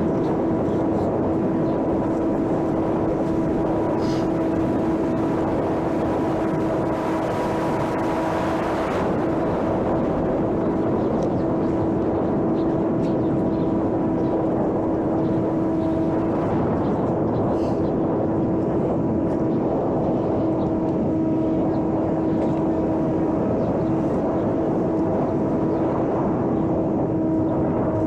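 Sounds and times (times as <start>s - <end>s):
model airplane motor humming: 0.0s - 28.0s
wind noise: 0.0s - 28.0s.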